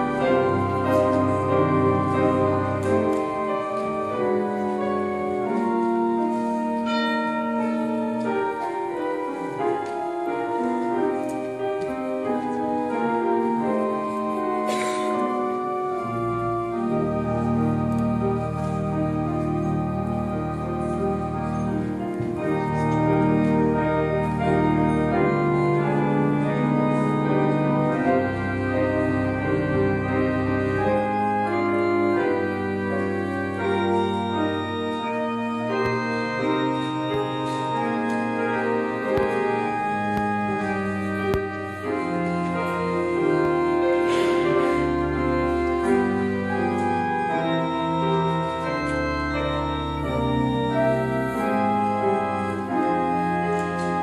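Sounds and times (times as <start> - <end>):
piano playing: 0.0 - 54.0
pipe organ chords: 0.0 - 54.0.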